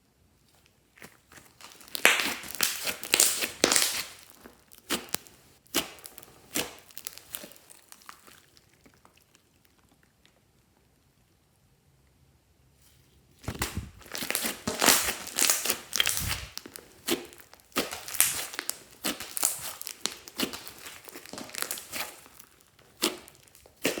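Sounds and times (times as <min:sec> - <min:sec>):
slime squeezed by hand: 0:00.9 - 0:09.6, 0:13.4 - 0:24.0.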